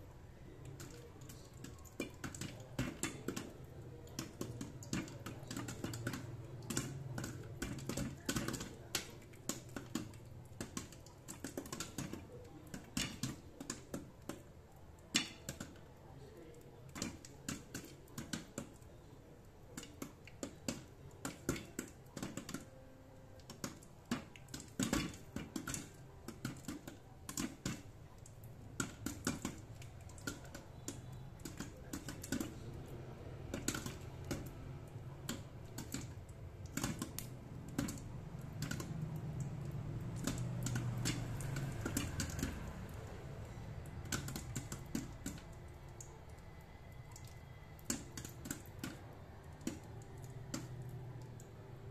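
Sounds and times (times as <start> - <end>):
popcorn popping: 0.0 - 51.9.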